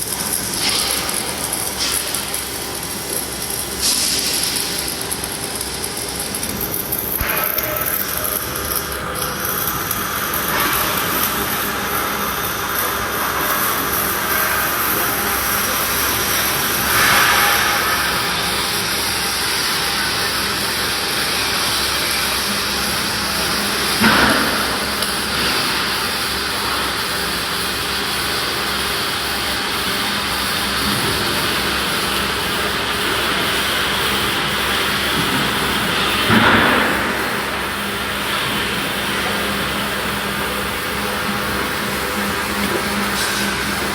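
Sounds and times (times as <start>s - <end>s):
welding arc hiss and crackle: 0.0s - 43.9s.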